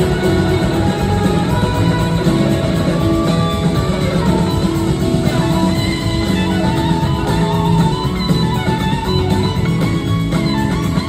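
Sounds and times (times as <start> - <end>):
drums: 0.0 - 11.0
electric guitar lead: 0.0 - 11.0
keyboards: 0.0 - 11.0.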